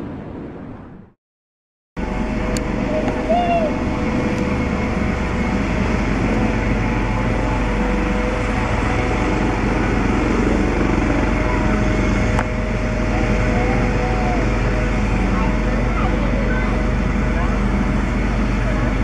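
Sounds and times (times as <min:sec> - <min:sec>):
turbine engine whine: 0:00.0 - 0:01.2, 0:02.0 - 0:19.0
helicopter rotor beating: 0:02.0 - 0:19.0.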